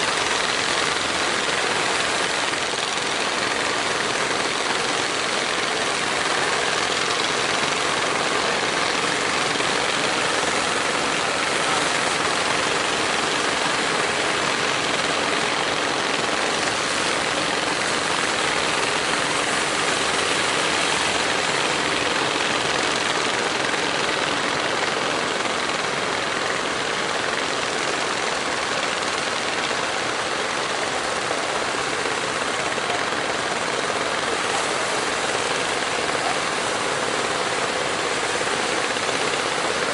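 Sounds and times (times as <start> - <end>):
boat engines running: 0.0 - 39.9
wind: 0.0 - 39.9.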